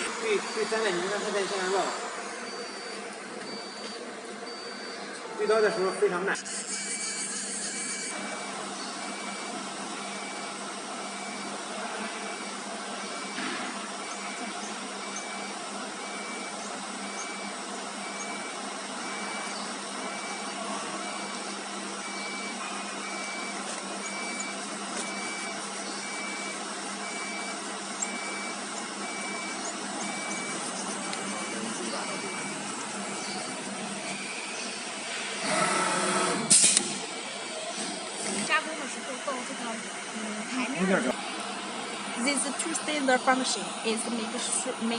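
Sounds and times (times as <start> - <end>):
cnc router machine hum: 0.0 - 44.9.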